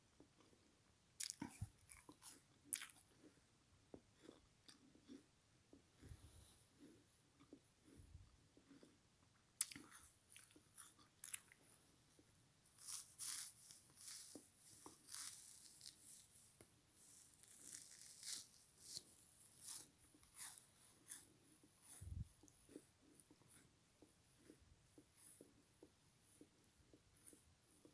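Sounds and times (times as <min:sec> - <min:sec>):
sponge being chewed crunching: 0:00.4 - 0:09.0, 0:09.6 - 0:11.6, 0:12.2 - 0:16.4, 0:17.0 - 0:27.9.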